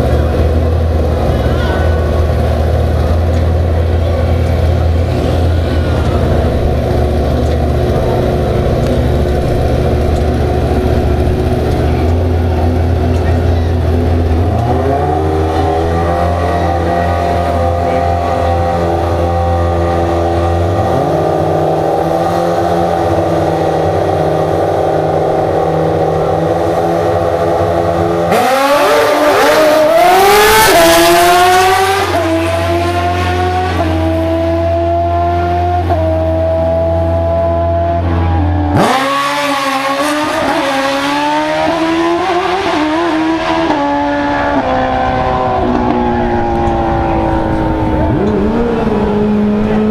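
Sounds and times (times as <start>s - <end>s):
motorcycle engines accelerating: 0.0s - 49.9s.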